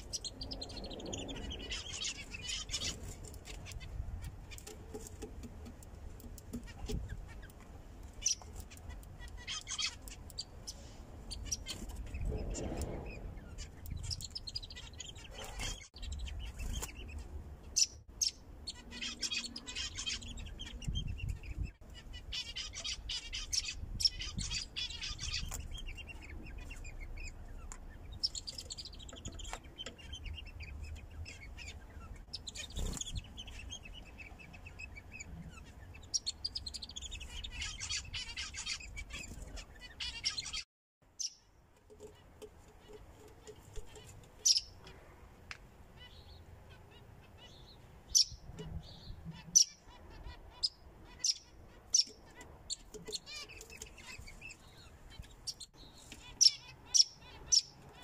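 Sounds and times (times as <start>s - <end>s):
finches chirping: 0.0s - 4.8s, 6.3s - 40.6s, 42.8s - 45.0s, 46.0s - 58.0s.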